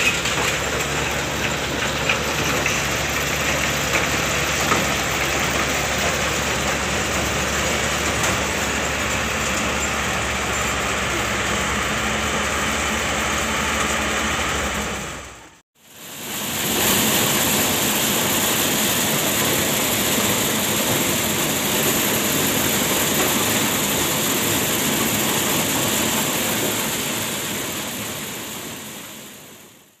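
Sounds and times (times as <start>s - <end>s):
kernels pouring from chute: 0.0s - 10.9s, 15.8s - 29.6s
combine harvester running: 0.0s - 30.0s.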